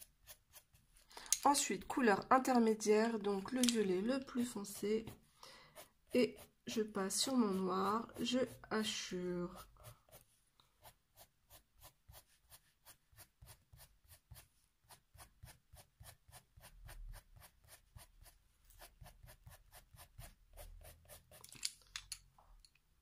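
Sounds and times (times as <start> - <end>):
pencil scratching on paper: 0.0 - 1.1, 3.3 - 21.5.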